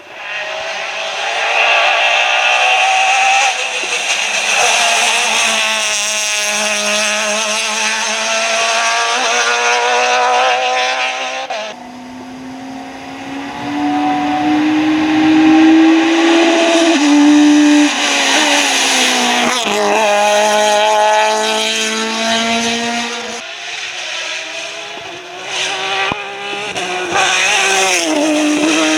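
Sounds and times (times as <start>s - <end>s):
rally car engines accelerating: 0.0s - 28.9s.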